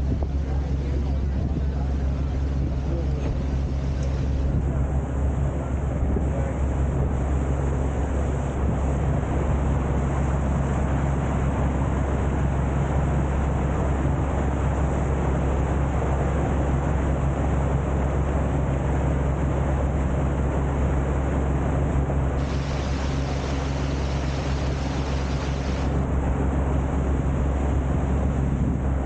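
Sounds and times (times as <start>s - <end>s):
boat engine hum: 0.0s - 29.0s
water rushing along hull: 0.0s - 29.0s.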